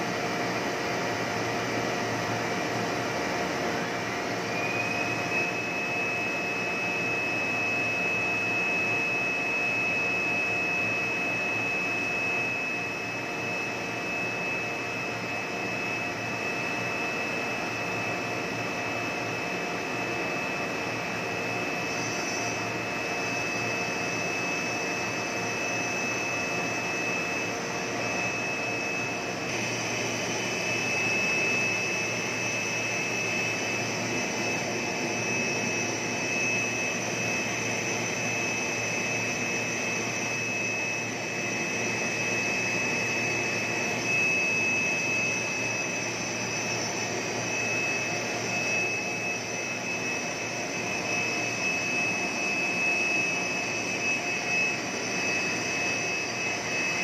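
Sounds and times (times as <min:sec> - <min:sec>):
high-pitched whine: 0:00.0 - 0:57.0
industrial drone of motors: 0:00.0 - 0:57.0.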